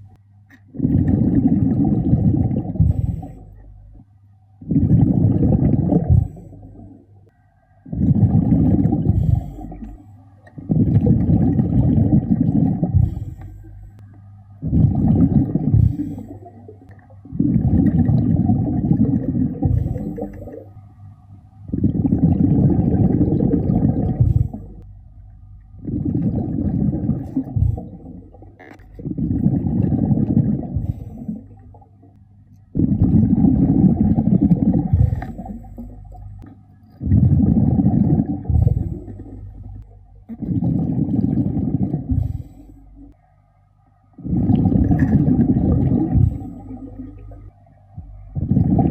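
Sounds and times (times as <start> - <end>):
underwater exhaled bubbles gurgling: 0.6 - 4.0, 4.6 - 13.9, 14.5 - 20.8, 21.7 - 24.9, 25.6 - 43.2, 44.2 - 48.9.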